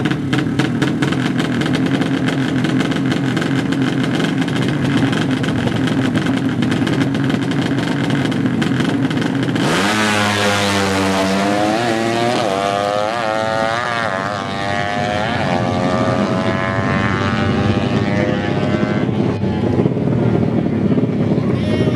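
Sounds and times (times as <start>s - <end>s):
motorcycle engine revving: 0.0s - 21.9s.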